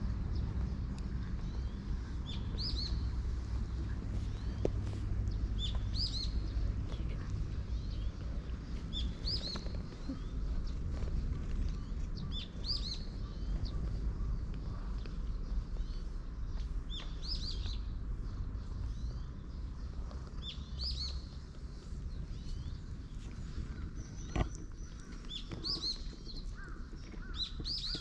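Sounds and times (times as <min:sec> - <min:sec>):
songbird chirping: 0:00.0 - 0:28.0
steady low rumble: 0:00.0 - 0:28.0.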